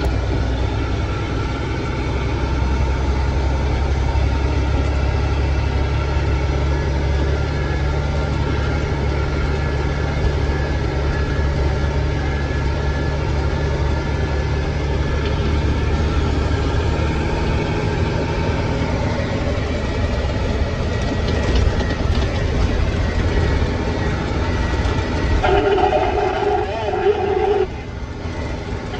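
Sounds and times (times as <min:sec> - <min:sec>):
road noise rushing: 0:00.0 - 0:28.9
truck diesel engine running: 0:00.0 - 0:28.9.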